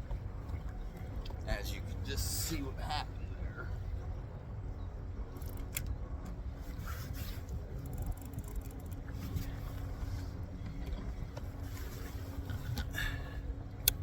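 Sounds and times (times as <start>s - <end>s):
boat motor humming: 0.0s - 14.0s
wind rumble on microphone: 0.0s - 14.0s.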